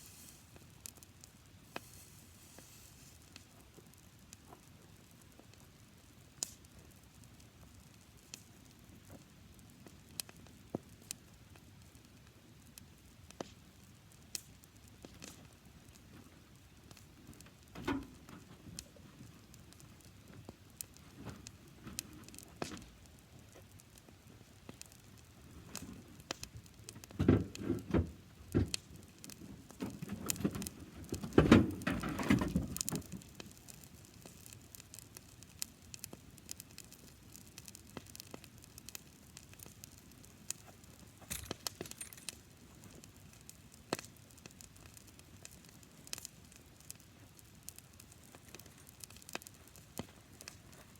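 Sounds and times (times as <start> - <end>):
grass fire crackling and popping: 0.0 - 50.9.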